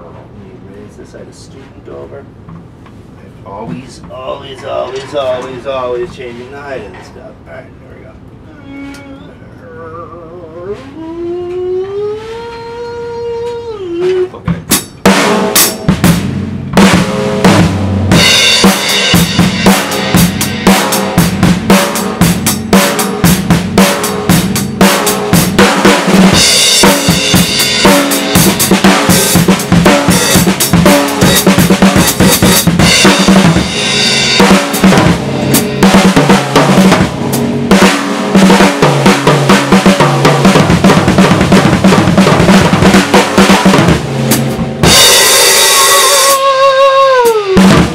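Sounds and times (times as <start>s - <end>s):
drum kit played hard: 3.5s - 7.4s, 12.2s - 47.9s.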